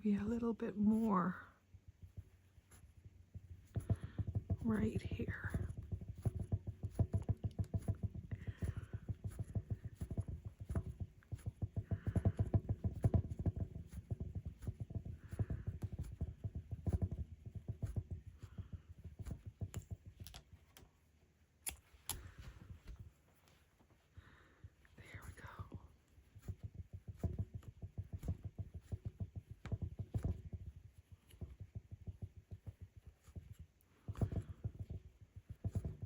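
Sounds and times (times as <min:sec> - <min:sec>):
rug hook knocking and scratching: 0:00.0 - 0:36.0
soft swish of wool loop: 0:00.0 - 0:36.0.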